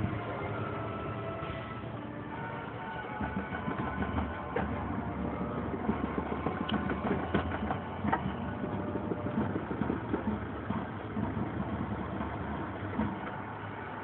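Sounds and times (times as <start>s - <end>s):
distant marching band: 0.0s - 14.0s
steady low rumble: 0.0s - 14.0s.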